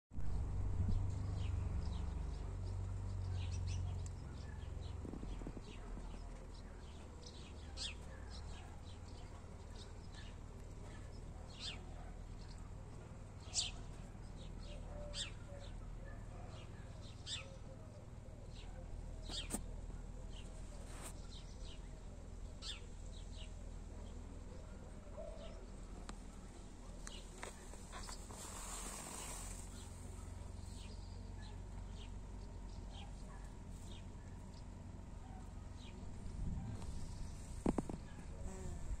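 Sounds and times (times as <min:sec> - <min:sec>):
low steady rumble: 0:00.2 - 0:39.0
small birds chirping: 0:00.2 - 0:39.0.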